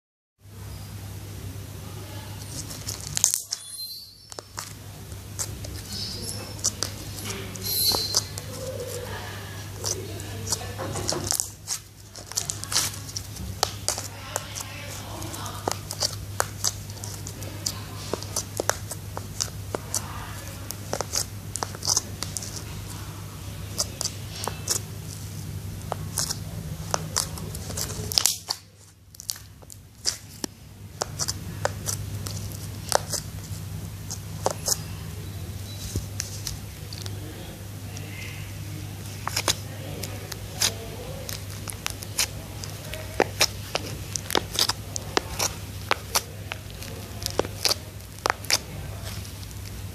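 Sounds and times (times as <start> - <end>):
steady low hum: 0.4 - 49.9.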